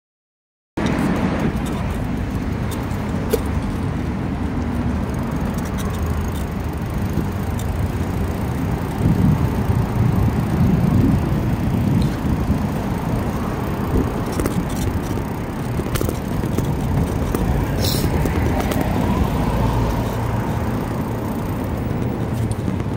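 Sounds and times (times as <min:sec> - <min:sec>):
bicycle road noise: 0:00.8 - 0:22.9
car traffic passing: 0:00.8 - 0:22.9
wind buffeting microphone: 0:00.8 - 0:22.9.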